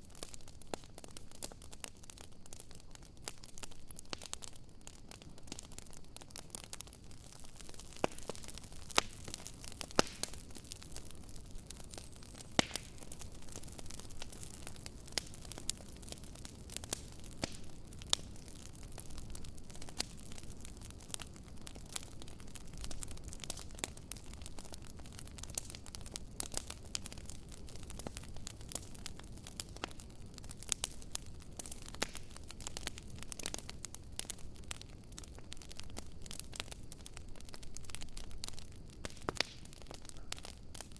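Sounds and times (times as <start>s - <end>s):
campfire crackling and popping: 0.0s - 40.9s
flames rushing: 4.1s - 38.3s.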